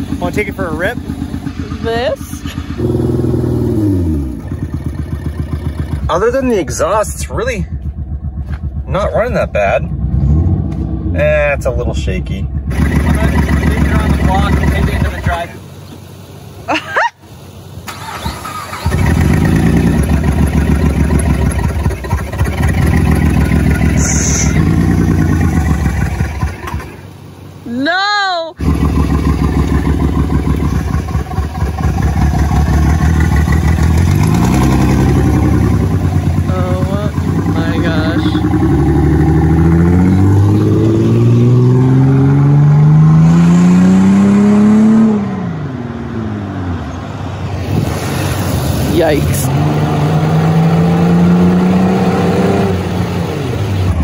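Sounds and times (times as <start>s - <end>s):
car engine rumbling with misfire: 0.0s - 27.6s, 28.6s - 45.0s.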